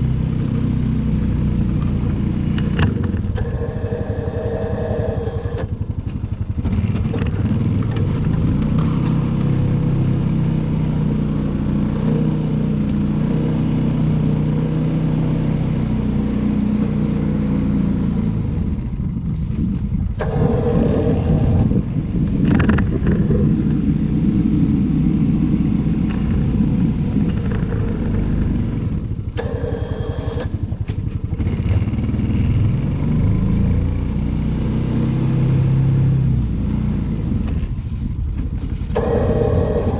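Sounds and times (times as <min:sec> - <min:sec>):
snow-clearing machine engine: 0:00.0 - 0:34.6, 0:35.4 - 0:39.9.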